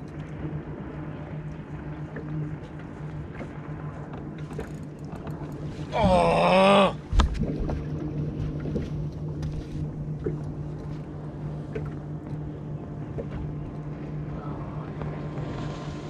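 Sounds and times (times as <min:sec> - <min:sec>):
boat low hum: 0:00.0 - 0:16.0
water noise: 0:00.0 - 0:16.0
wind: 0:00.0 - 0:16.0.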